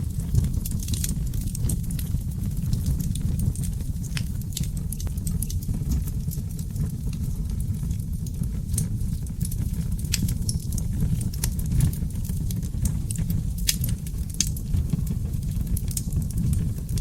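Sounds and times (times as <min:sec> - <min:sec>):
fire crackles and pops: 0:00.0 - 0:17.0
wood fire burning: 0:00.0 - 0:17.0.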